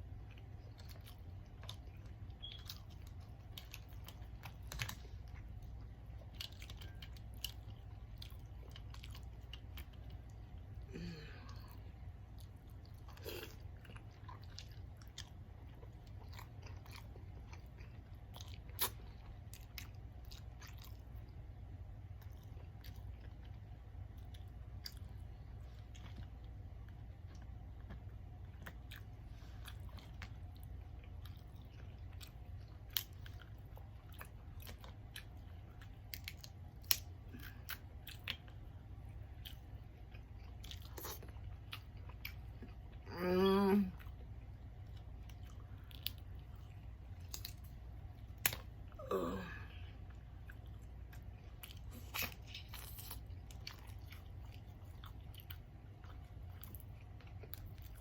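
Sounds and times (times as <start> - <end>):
chewing and biting food: 0.0 - 10.9, 11.5 - 43.1, 43.9 - 49.1, 50.0 - 58.0.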